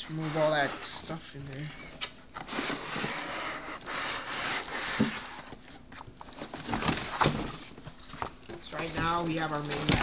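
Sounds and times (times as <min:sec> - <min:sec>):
cardboard and packing rustling: 0:00.0 - 0:10.0.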